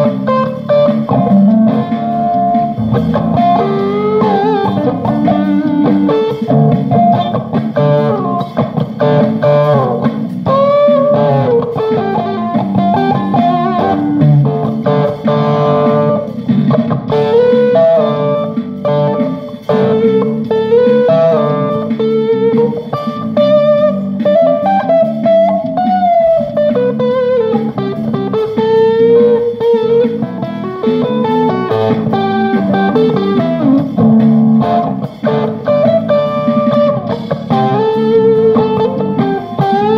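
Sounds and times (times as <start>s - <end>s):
improvised guitar playing: 0.0s - 39.9s.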